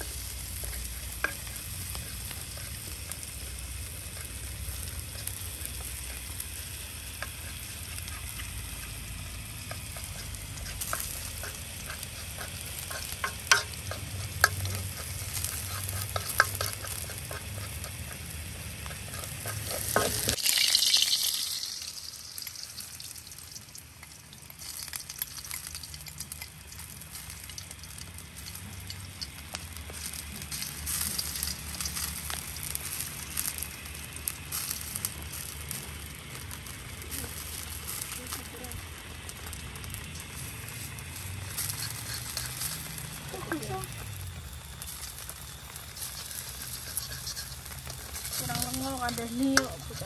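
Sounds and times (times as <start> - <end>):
egg sizzling in hot oil: 0.0 - 50.0
onion sizzling in hot oil: 0.0 - 50.0.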